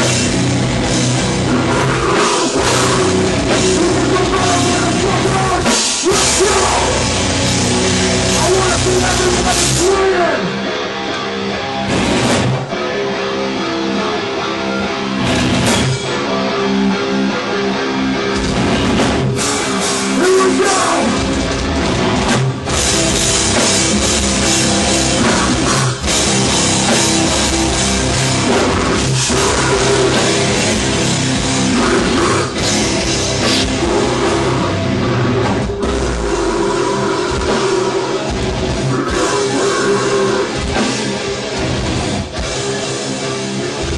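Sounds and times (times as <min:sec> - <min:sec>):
distorted metal guitars: 0:00.0 - 0:43.9
pounding drum kit: 0:00.0 - 0:43.9.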